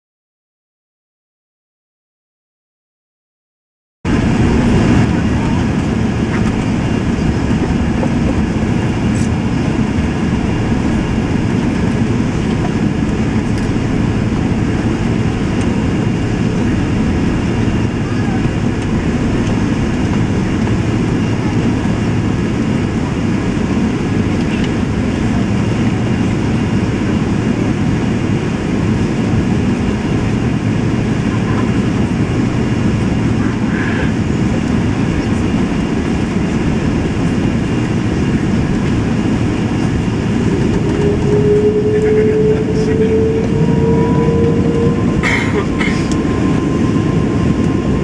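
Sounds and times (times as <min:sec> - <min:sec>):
airplane cabin rumble: 0:04.1 - 0:48.0.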